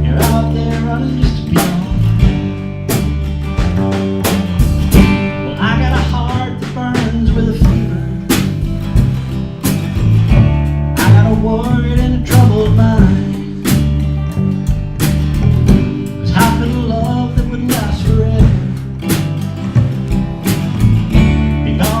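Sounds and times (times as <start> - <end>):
drum backbeat: 0.0 - 22.0
guitar and bass chords: 0.0 - 22.0
lead melody line: 0.0 - 22.0.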